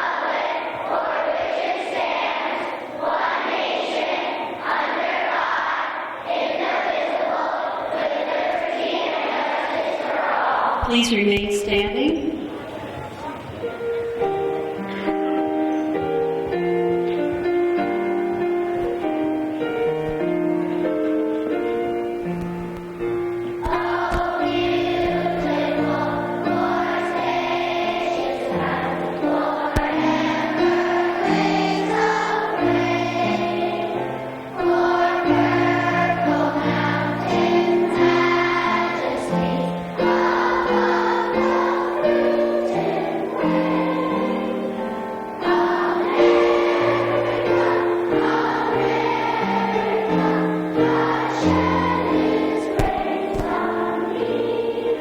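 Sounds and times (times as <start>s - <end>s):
children singing together: 0.0s - 11.0s, 12.2s - 55.0s
piano accompaniment: 10.8s - 55.0s.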